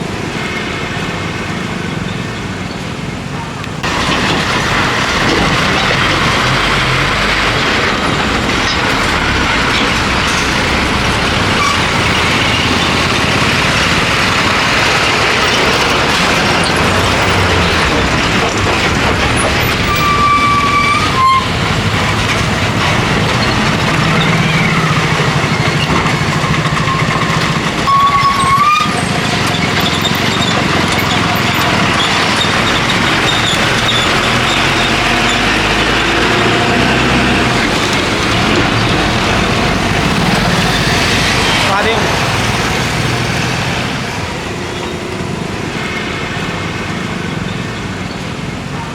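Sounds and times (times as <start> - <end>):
heavy traffic rumble: 0.0 - 48.9.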